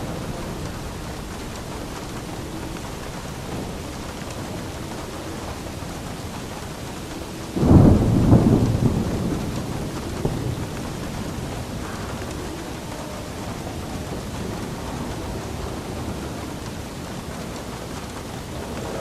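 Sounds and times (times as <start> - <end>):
steady rain falling: 0.0 - 19.0
thunder clap rumbling: 0.0 - 19.0.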